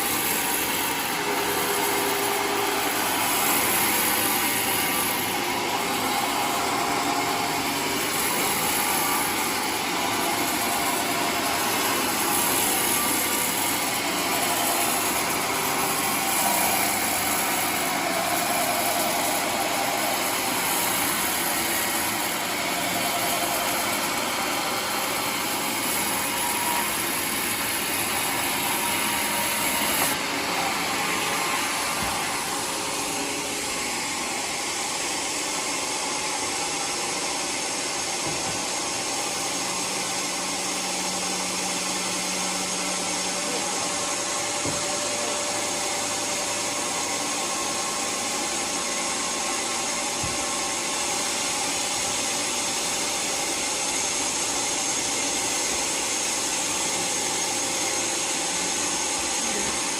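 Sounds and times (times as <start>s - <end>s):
sawmill engine and saw running: 0.0s - 59.9s.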